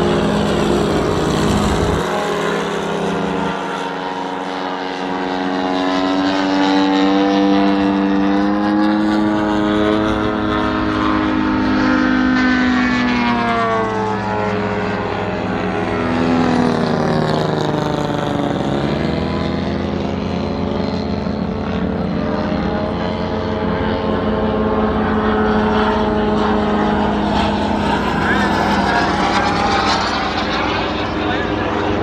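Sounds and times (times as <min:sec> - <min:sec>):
model plane radial engine: 0:00.0 - 0:32.0.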